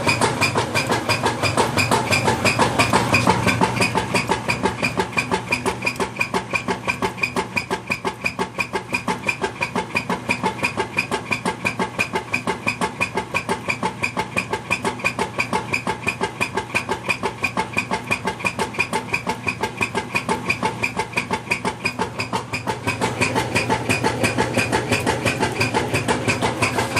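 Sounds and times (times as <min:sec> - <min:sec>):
washing machine agitating rhythmically: 0:00.0 - 0:26.9.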